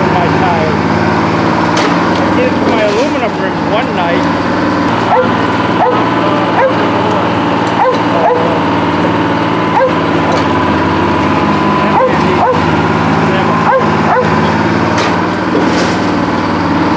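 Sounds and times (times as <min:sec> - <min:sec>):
shovel engine running: 0:00.0 - 0:16.9.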